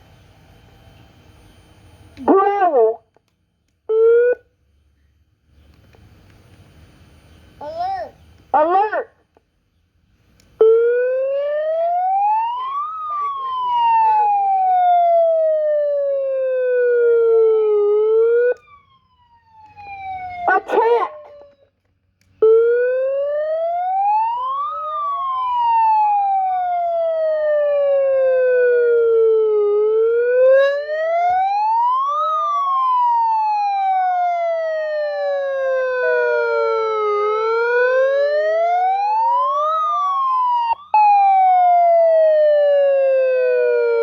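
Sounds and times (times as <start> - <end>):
siren wailing: 0.0 - 3.0, 3.9 - 4.5, 10.6 - 44.0.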